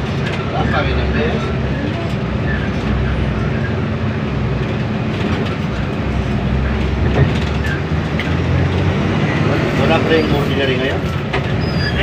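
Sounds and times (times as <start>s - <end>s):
bus engine humming: 0.0s - 12.0s
road noise: 0.0s - 12.0s.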